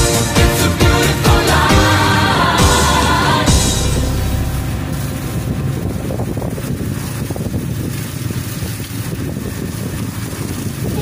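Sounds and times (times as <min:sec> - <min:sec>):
low rumble: 0:00.0 - 0:10.8
hose spraying water: 0:00.0 - 0:11.0.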